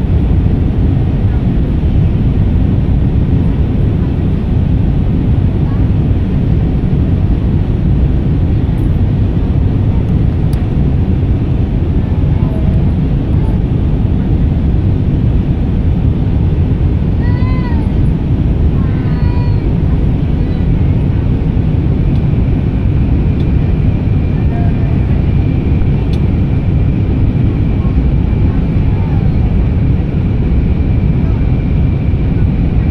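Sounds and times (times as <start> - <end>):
airliner cabin engine rumble: 0.0 - 32.9.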